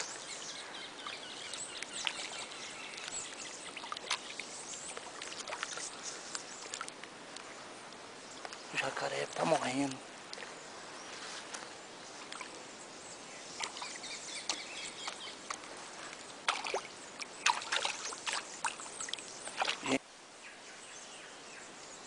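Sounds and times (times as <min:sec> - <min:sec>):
faint outdoor hiss: 0:00.0 - 0:22.0
water sloshing and splashing: 0:01.0 - 0:12.7, 0:13.4 - 0:20.0.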